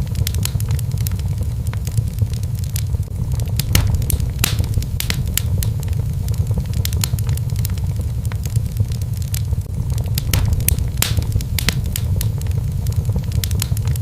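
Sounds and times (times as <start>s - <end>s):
sharp pops of fire: 0.0s - 14.0s
wood fire crackling: 0.0s - 14.0s.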